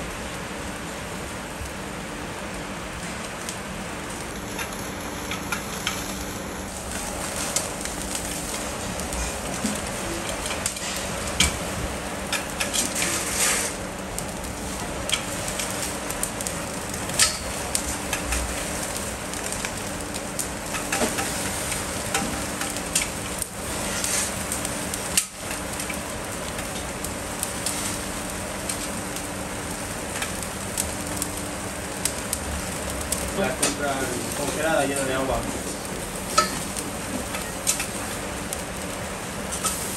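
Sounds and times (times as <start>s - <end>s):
fat crackling in embers: 0.0s - 39.9s
steady low hum: 0.0s - 39.9s
steaks sizzling on a grill: 0.0s - 39.9s.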